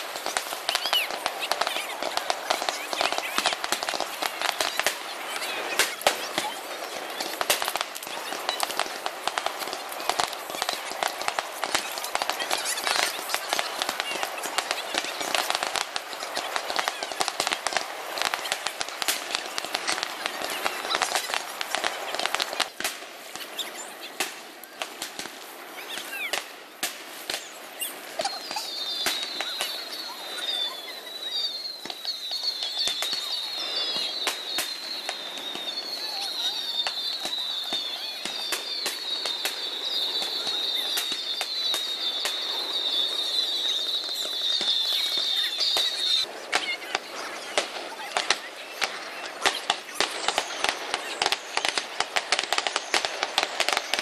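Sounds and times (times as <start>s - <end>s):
fireworks cracking and popping: 0.0s - 54.0s.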